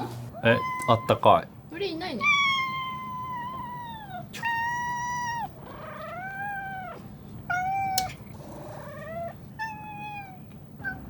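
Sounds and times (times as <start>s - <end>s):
cat meowing: 0.3s - 1.4s, 2.1s - 11.0s.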